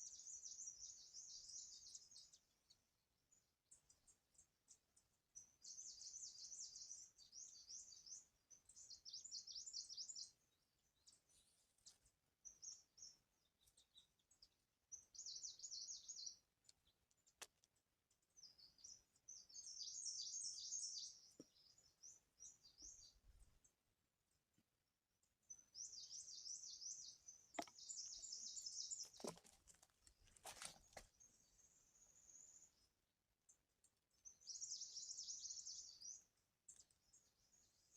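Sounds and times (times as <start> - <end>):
small birds twittering: 0.0 - 23.8, 25.2 - 37.9.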